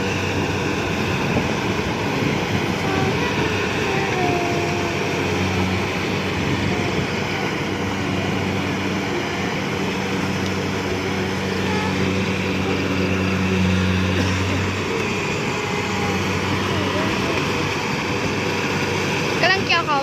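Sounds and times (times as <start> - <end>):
combine harvester engine humming: 0.0 - 20.0
mechanical rumble: 0.0 - 20.0.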